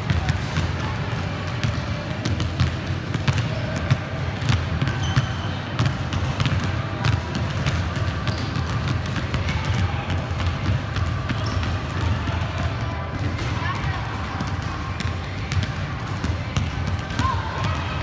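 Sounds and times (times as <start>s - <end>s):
basketballs bouncing on wood floor: 0.0s - 18.0s.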